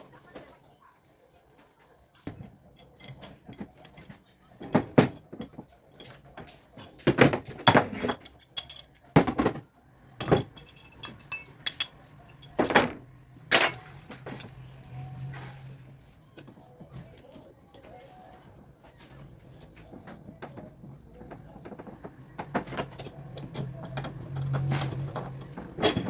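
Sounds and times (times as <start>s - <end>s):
metal tools clinking: 2.1s - 26.0s.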